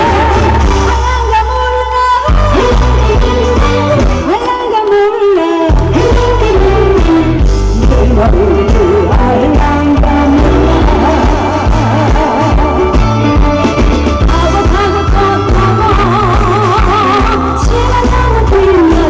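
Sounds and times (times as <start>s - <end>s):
woman singing into microphone: 0.0s - 13.2s, 14.2s - 19.0s
amplified accompaniment with heavy bass: 0.0s - 19.0s.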